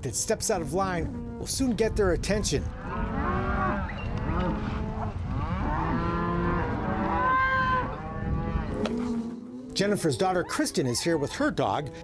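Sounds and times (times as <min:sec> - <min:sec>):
cows mooing and bawling: 0:00.7 - 0:01.8, 0:02.4 - 0:12.0.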